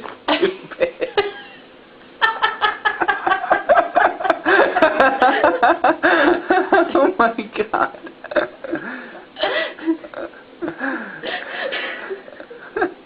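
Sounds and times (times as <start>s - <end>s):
person laughing: 0.3s - 7.0s, 8.0s - 13.0s.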